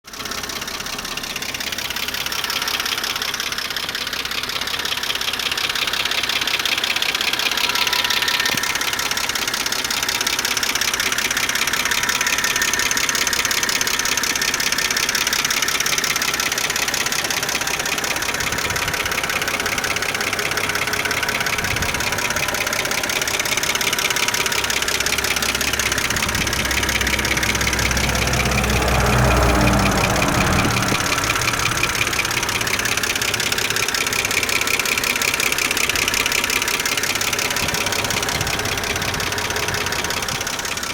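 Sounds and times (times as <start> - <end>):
car engine running: 0.0 - 40.9
fast steady engine ticking: 0.0 - 40.9.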